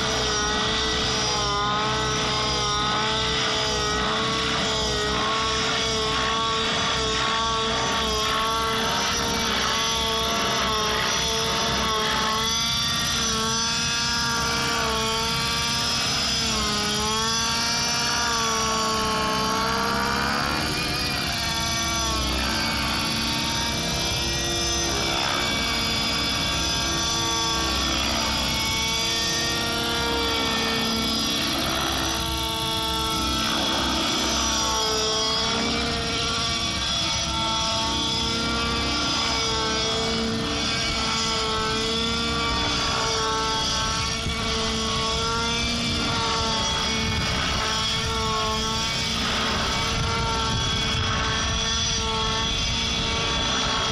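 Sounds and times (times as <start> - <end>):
rc helicopter engine and rotor drone: 0.0 - 53.9.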